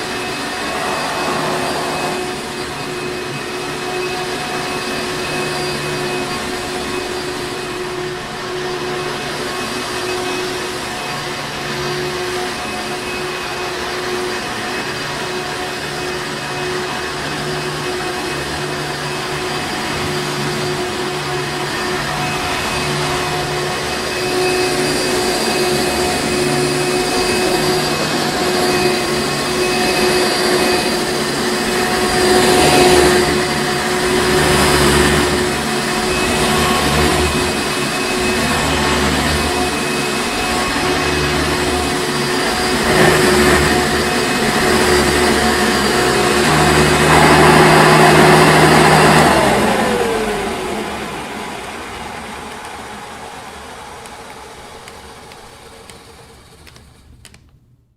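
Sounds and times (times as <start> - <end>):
vacuum cleaner whining: 0.0 - 57.5.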